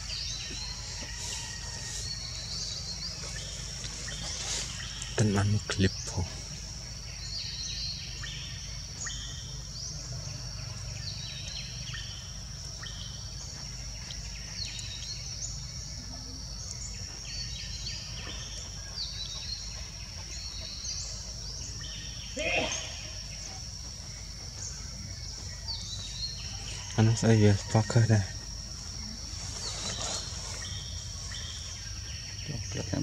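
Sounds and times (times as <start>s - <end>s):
bird chirps: 0.0s - 28.2s.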